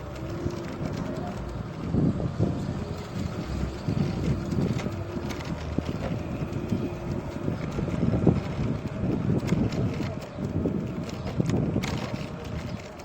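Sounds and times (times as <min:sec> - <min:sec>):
electric scooter rumble: 0:00.0 - 0:13.0
wind buffeting microphone: 0:00.0 - 0:13.0.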